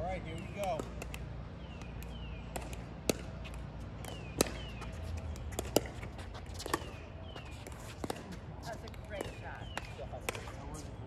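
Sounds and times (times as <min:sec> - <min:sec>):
paddles hitting ball: 0:00.3 - 0:10.7.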